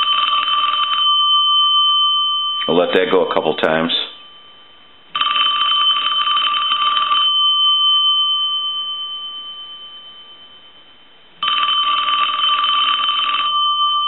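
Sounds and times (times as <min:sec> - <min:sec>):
telephone bell ringing: 0:00.0 - 0:02.9, 0:04.1 - 0:10.7, 0:11.4 - 0:14.0.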